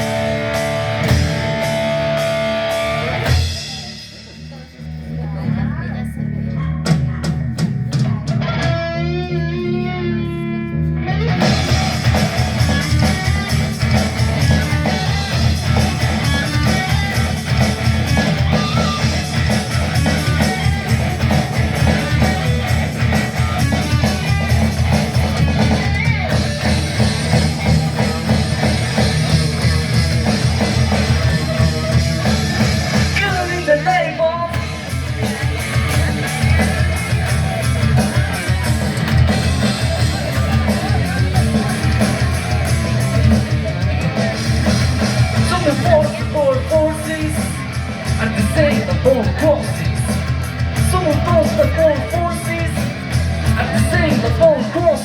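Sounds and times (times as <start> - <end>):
rock band playing: 0.0 - 55.0
wavering electric guitar: 0.0 - 55.0.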